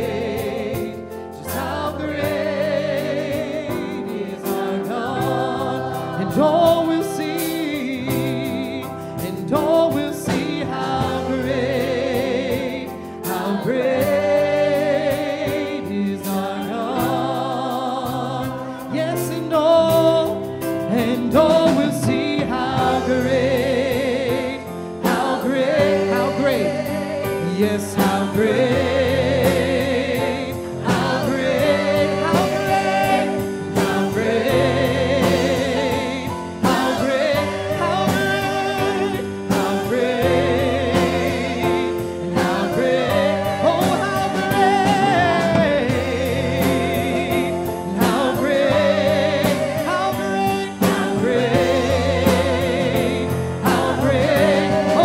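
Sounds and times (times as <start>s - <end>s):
gospel choir singing with band: 0.0s - 55.0s.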